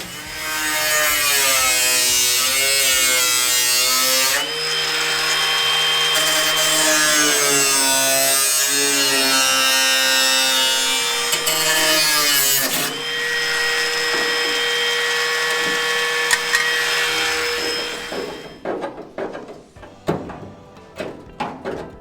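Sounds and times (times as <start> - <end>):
power tool cutting sheet steel: 0.0 - 19.3.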